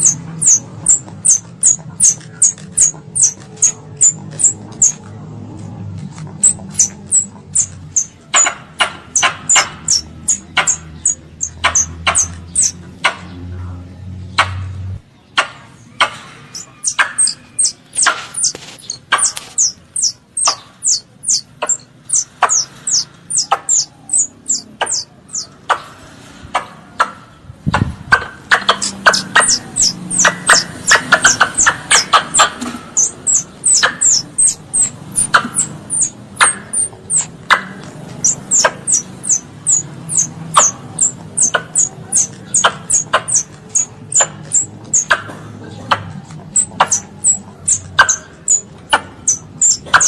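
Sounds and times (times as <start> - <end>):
young squirrel chirping: 0.0 - 5.0, 6.3 - 13.4, 15.3 - 25.8, 27.7 - 50.0.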